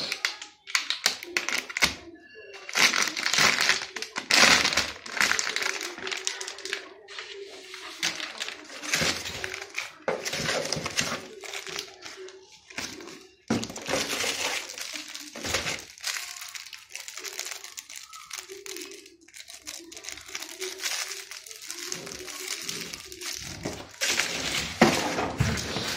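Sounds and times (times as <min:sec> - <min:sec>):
plastic wrapping crinkling: 0:00.0 - 0:02.0, 0:02.6 - 0:25.9
cardboard packaging rustling: 0:02.7 - 0:25.9.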